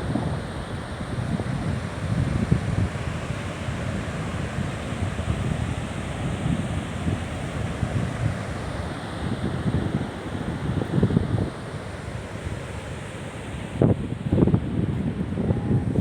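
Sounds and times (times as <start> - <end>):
sea surf washing on shore: 0.0 - 16.0
wind buffeting microphone: 0.0 - 16.0.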